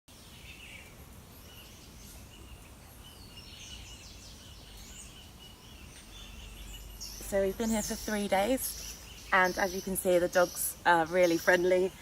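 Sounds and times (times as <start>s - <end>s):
birds chirping and calling: 0.2s - 12.0s.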